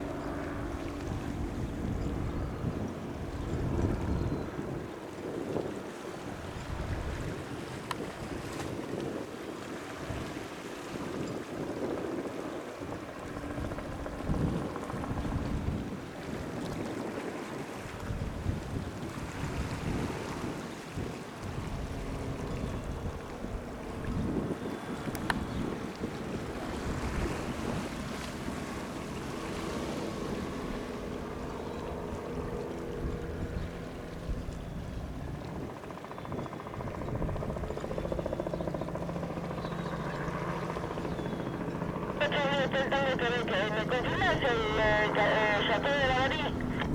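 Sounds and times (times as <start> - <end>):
helicopter drone: 0.0 - 8.0, 9.0 - 46.9
wind buffeting microphone: 0.3 - 41.9.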